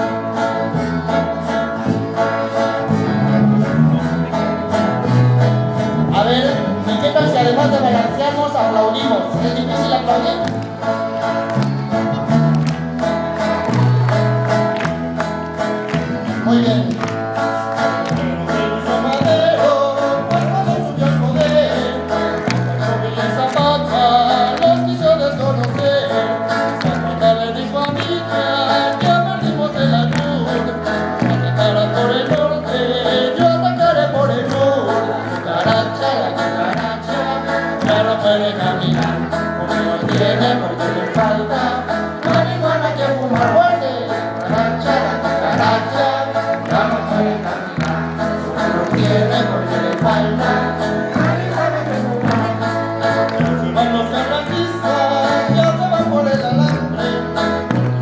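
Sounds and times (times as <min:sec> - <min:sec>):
accordion melody: 0:00.0 - 0:58.0
guitars: 0:00.0 - 0:58.0
percussion: 0:00.0 - 0:58.0
rhythmic hand clapping: 0:00.0 - 0:58.0.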